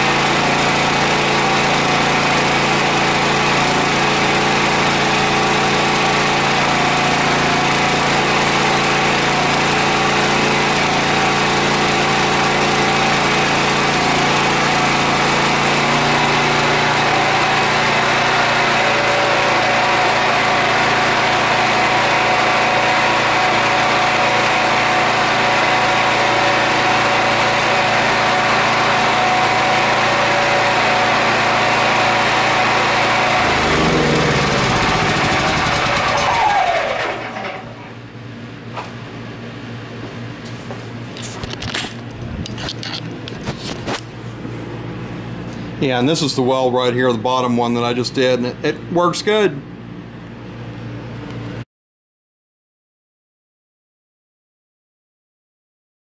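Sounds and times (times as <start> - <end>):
generator engine running: 0.0 - 51.6.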